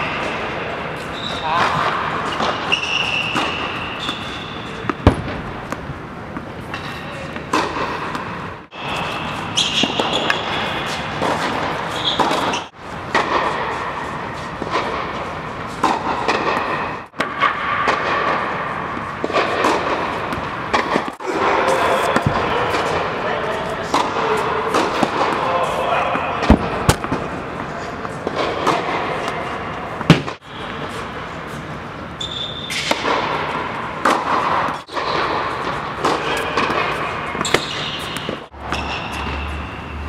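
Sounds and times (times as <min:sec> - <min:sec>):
racket hitting tennis ball: 0:00.0 - 0:31.7, 0:32.7 - 0:39.6
indoor court noise: 0:00.0 - 0:40.0.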